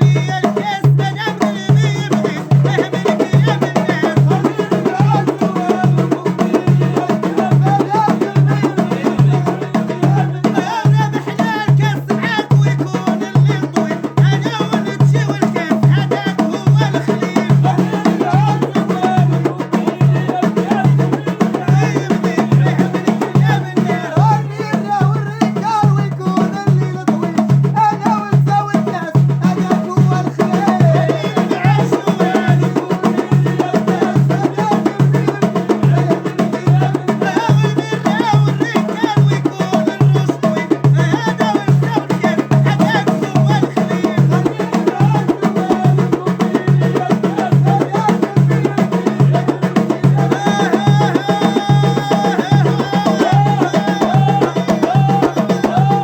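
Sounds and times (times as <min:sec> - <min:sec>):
hand drums beating: 0:00.0 - 0:56.0.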